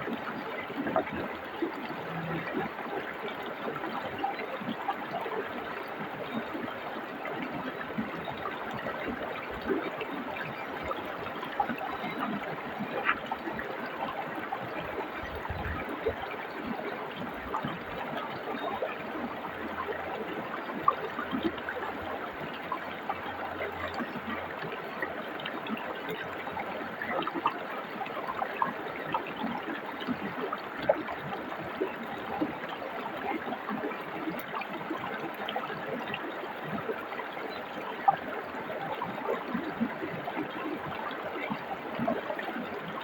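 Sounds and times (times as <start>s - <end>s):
stream flowing: 0.0s - 43.0s.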